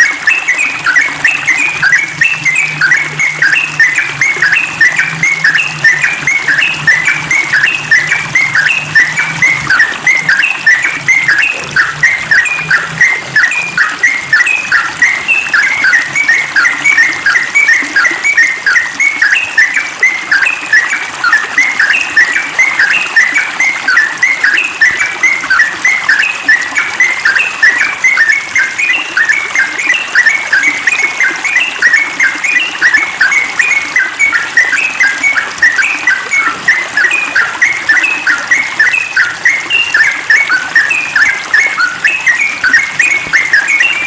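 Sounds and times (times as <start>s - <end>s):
bird chattering song: 0.0s - 44.0s.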